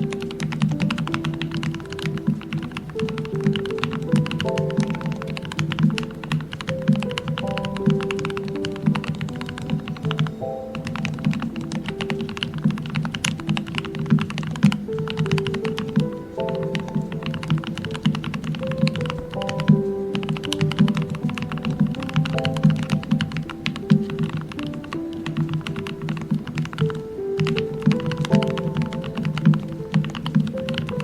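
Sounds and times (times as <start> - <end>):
mechanical keyboard typing: 0.0 - 31.0
soft background music: 0.0 - 31.0.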